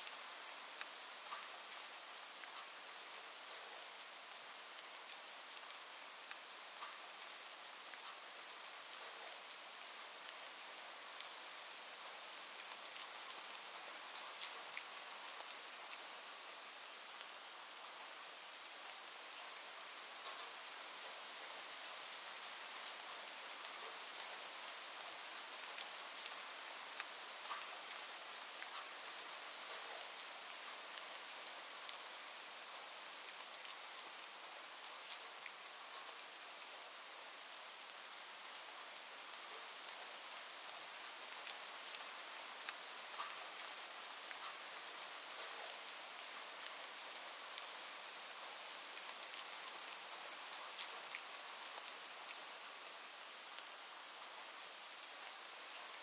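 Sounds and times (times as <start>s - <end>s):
rain drops ticking: 0.0s - 56.0s
steady rain hiss: 0.0s - 56.0s.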